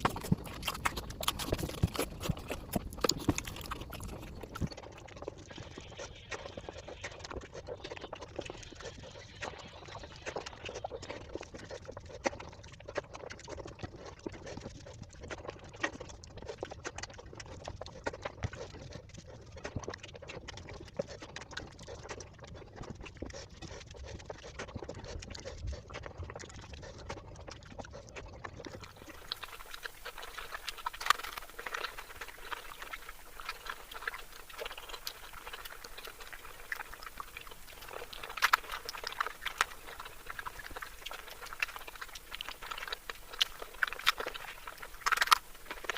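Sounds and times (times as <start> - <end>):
person chewing with mouth smacks: 0.0 - 45.9.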